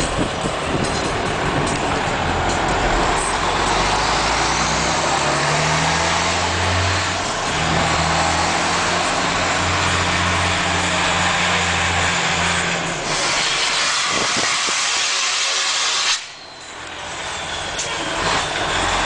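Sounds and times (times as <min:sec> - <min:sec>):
loud diesel truck engine: 0:00.0 - 0:19.0.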